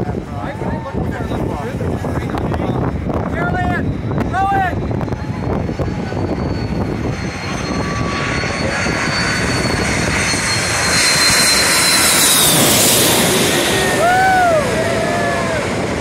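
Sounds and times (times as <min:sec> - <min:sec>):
jet engines whining and rushing: 0:00.0 - 0:16.0.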